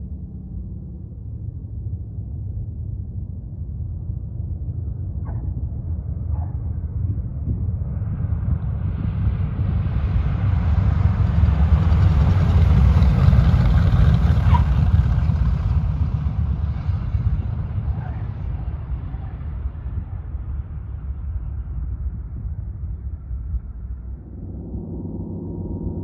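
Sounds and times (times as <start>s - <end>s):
propeller plane engines rumbling: 0.0s - 26.0s.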